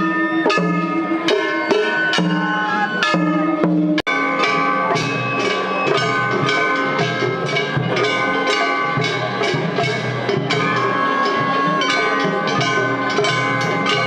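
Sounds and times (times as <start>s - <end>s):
metal hand gongs ringing: 0.0s - 14.0s
taiko drums: 0.0s - 14.0s.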